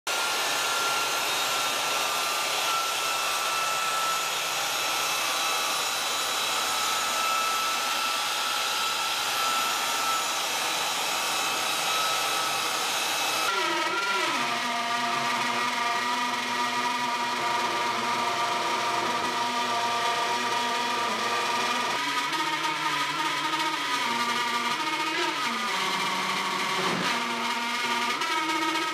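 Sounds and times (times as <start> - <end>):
router cutting wood: 0.0 - 28.9
electric sander running: 0.1 - 28.9.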